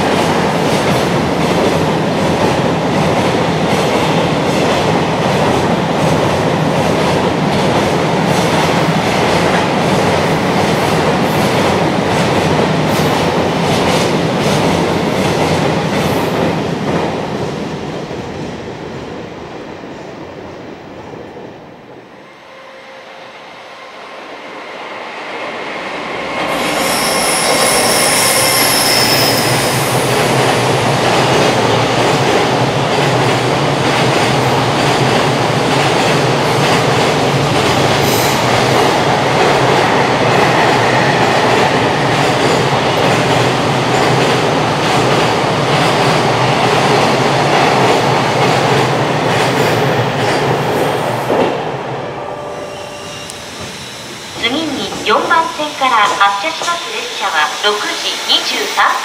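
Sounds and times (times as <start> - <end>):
freight train wheels rumbling: 0.0 - 22.2, 24.4 - 58.7.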